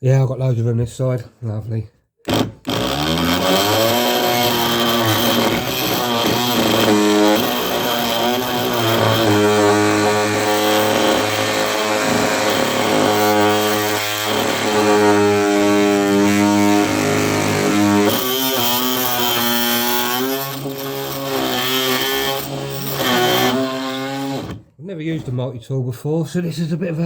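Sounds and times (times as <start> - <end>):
oscillating multi-tool cutting nail: 2.3 - 24.6.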